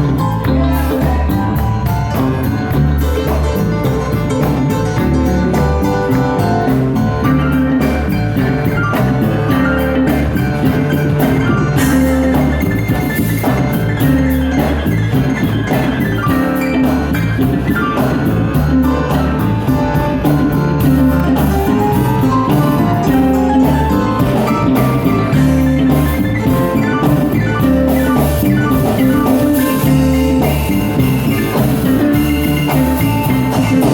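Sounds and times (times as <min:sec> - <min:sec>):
live blues band playing: 0:00.0 - 0:33.9.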